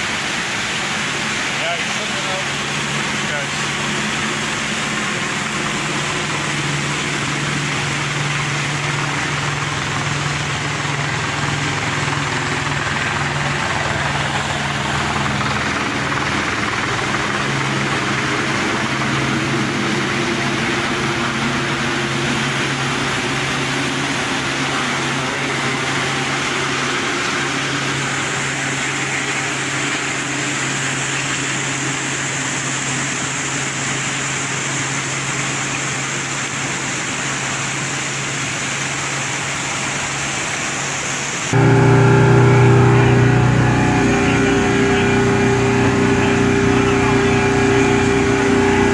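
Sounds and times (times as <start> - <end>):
vehicle engine running: 0.0 - 39.8, 41.5 - 48.9.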